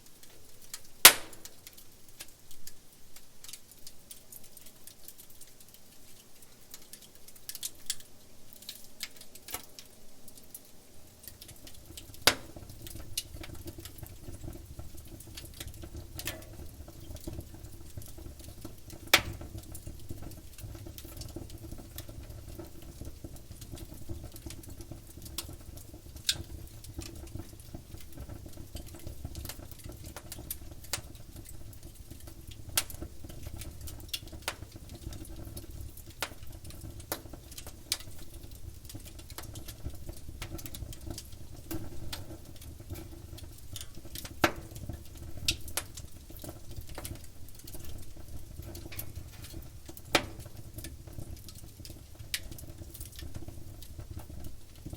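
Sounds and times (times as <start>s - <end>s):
campfire crackling and popping: 0.0s - 54.9s
low rumble of flames: 3.2s - 54.9s.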